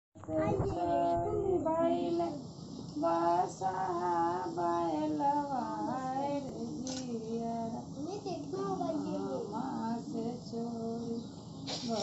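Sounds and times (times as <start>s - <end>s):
woman singing unaccompanied: 0.2s - 12.0s.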